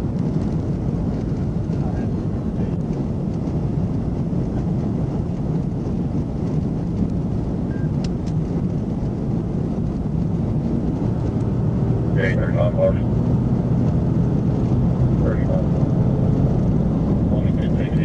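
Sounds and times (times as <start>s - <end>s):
car interior driving rumble: 0.0s - 18.0s.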